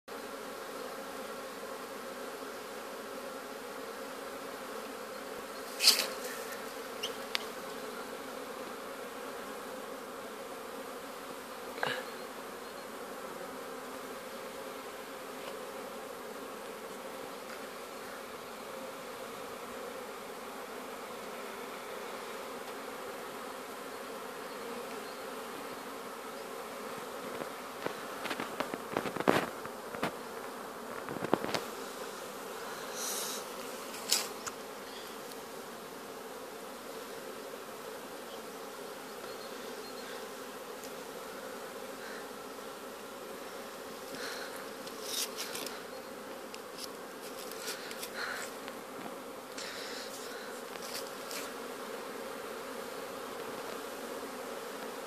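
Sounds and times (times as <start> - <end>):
bees humming in flight: 0.1 - 55.0.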